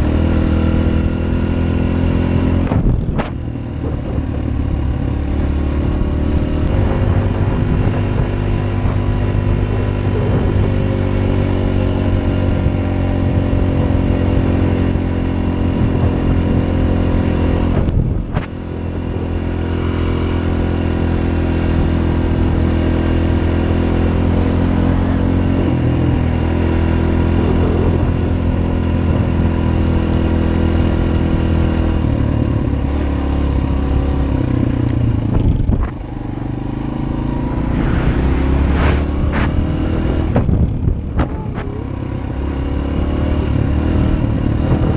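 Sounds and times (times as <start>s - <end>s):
dirt bike engine running: 0.0s - 44.9s.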